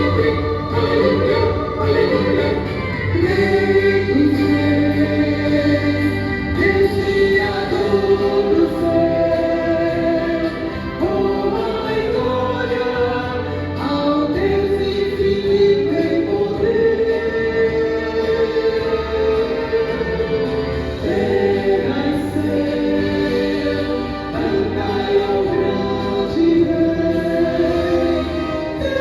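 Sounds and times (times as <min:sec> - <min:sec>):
vocal ensemble singing gospel: 0:00.0 - 0:29.0.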